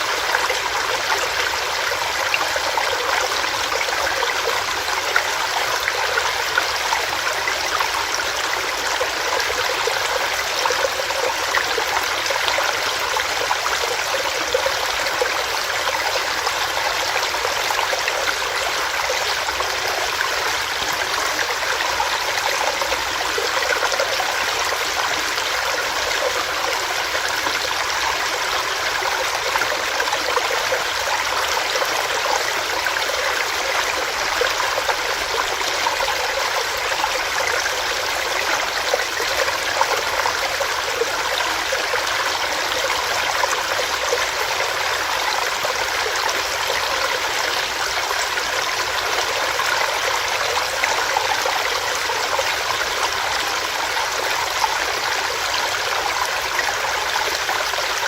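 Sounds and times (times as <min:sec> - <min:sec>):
stream water splashing over rocks: 0:00.0 - 0:58.0.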